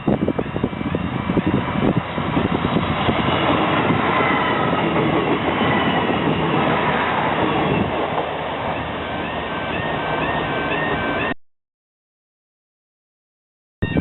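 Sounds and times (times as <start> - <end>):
train passing rumble: 0.0 - 11.4.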